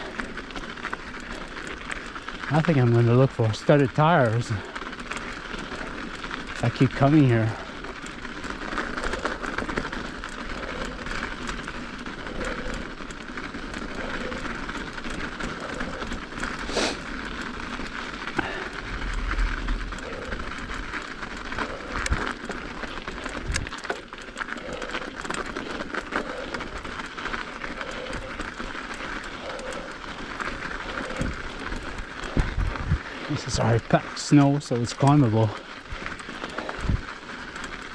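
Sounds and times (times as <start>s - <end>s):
bike tyre and drivetrain noise: 0.0s - 37.9s.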